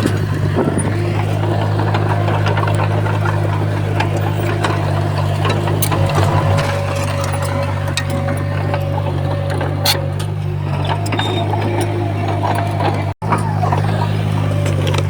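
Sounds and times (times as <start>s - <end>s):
bulldozer diesel engine running: 0.0s - 15.0s
clicks and clanks: 0.0s - 15.0s.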